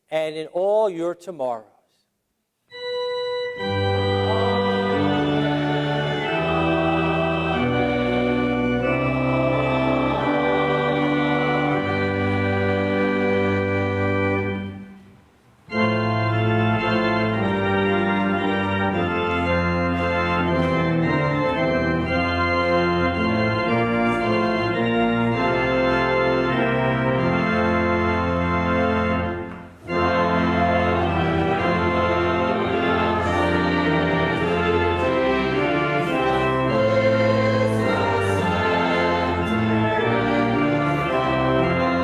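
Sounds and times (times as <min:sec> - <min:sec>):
church organ chords: 0:02.7 - 0:42.0.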